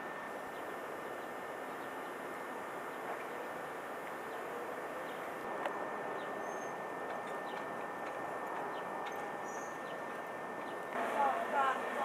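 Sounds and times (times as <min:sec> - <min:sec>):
outdoor ambient noise: 0:00.0 - 0:12.0
thin steady high tone: 0:00.0 - 0:12.0.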